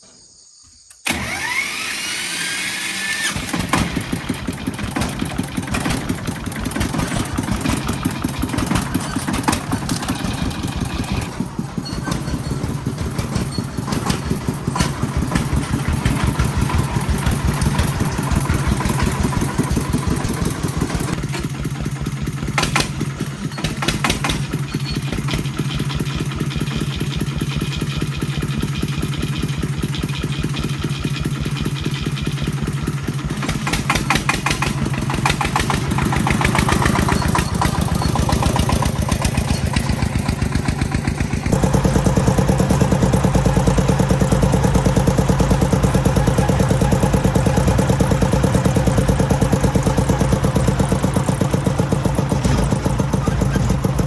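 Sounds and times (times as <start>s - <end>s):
tractor engine running: 0.8s - 54.0s.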